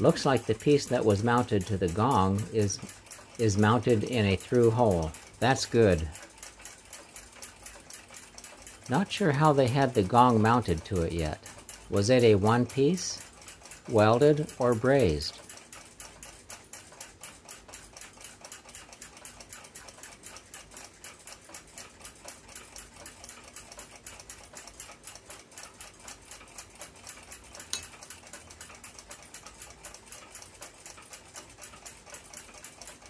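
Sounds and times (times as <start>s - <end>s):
mechanical clock ticking: 0.0s - 33.0s.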